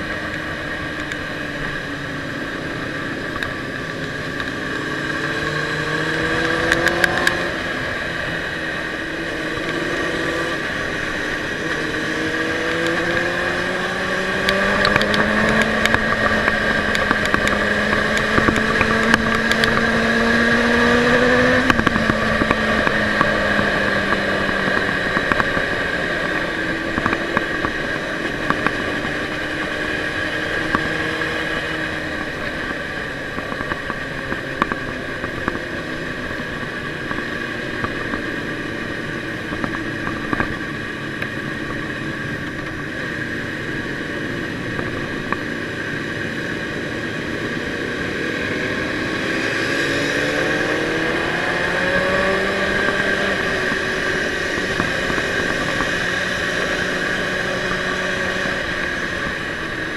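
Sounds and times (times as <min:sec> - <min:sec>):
motorcycle engine at speed: 0:00.0 - 0:59.9
wind and road rush: 0:00.0 - 0:59.9.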